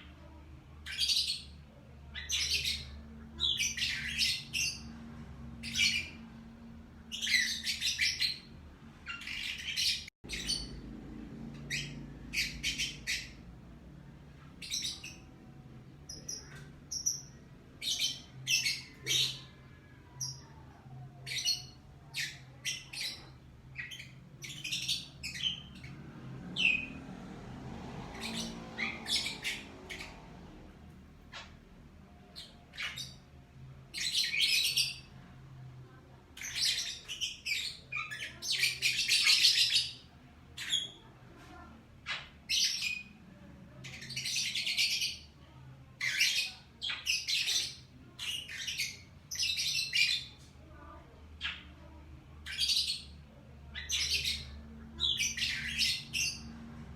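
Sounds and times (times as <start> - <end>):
faint low hum: 0.0 - 56.9
bird chirping: 0.2 - 30.4, 35.9 - 56.9.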